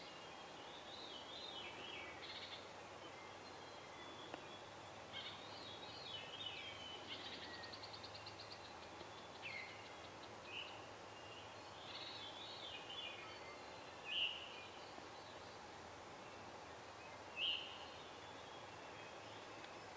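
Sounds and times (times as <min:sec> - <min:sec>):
songbirds singing: 0:00.0 - 0:19.9.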